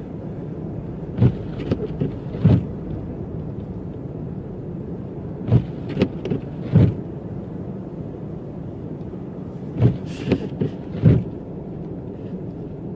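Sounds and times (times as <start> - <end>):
car driving through snow: 0.0 - 12.9.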